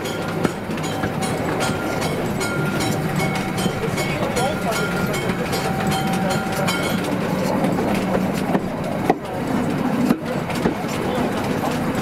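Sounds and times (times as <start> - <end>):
railway wagon wheels rumbling: 0.0 - 12.0
wheels knocking on track: 0.0 - 12.0.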